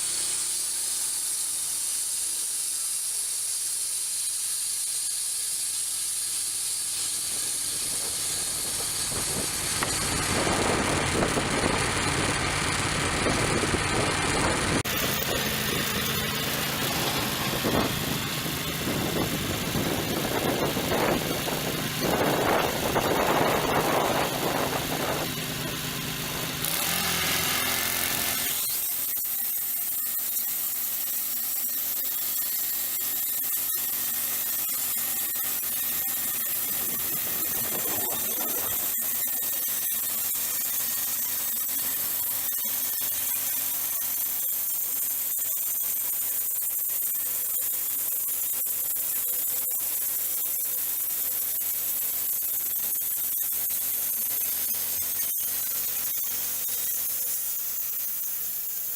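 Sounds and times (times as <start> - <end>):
band sawmill engine running: 0.0 - 58.9
saw blade sawing: 0.0 - 58.9.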